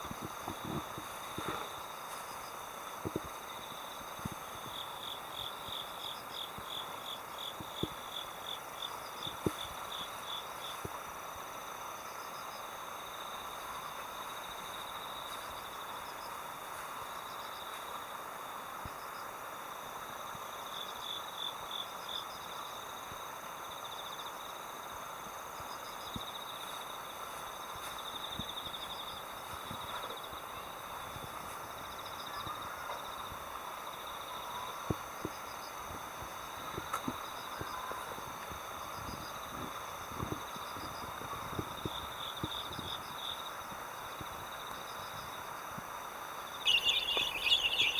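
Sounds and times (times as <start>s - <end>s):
background hiss: 0.0s - 47.9s
crickets chirping: 0.0s - 47.9s.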